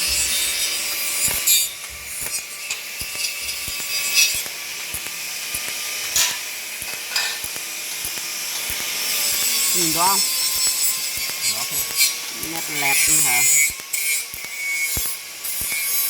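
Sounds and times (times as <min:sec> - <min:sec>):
sharp crackles and clicks: 0:00.0 - 0:16.0
welding arc hissing: 0:00.0 - 0:16.0.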